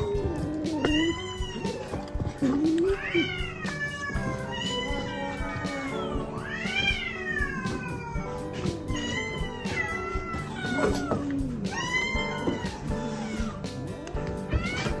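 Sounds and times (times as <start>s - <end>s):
kittens meowing: 0.0s - 13.7s
background music: 0.0s - 15.0s.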